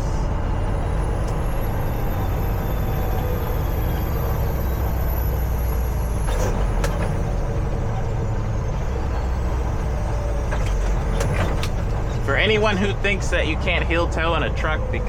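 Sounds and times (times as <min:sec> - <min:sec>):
truck diesel engine rumble: 0:00.0 - 0:15.0.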